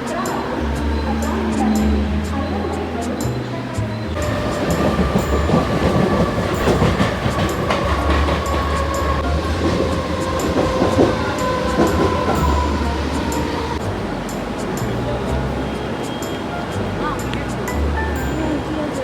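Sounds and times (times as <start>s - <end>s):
high whine of train: 0.0s - 19.0s
train clatter: 0.0s - 19.0s
train wheels rumbling on track: 0.0s - 19.0s.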